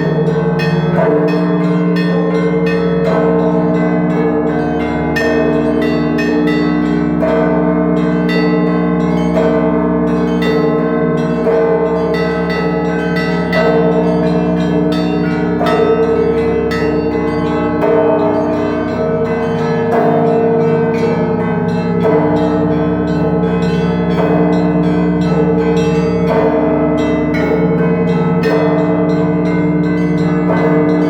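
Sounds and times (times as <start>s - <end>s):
large church bells ringing: 0.0s - 31.0s
small church bells in quick patterns: 0.0s - 31.0s.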